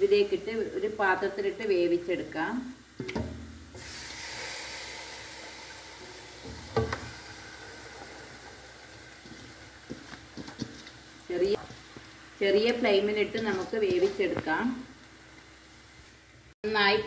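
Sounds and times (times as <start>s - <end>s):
onions sizzling in oil: 0.0s - 16.4s.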